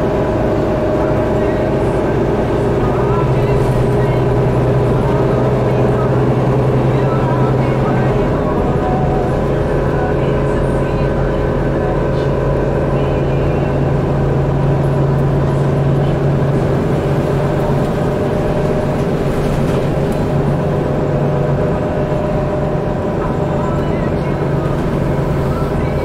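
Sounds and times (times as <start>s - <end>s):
bus diesel engine drone: 0.0s - 26.0s
road noise: 0.0s - 26.0s.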